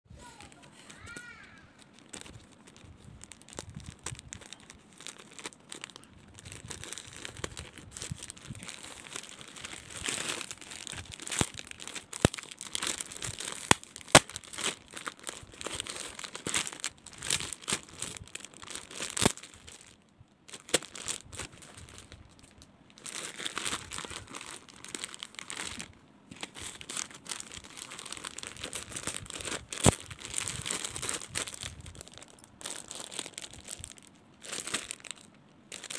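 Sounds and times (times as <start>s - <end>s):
plastic bag crinkling: 0.3s - 35.9s.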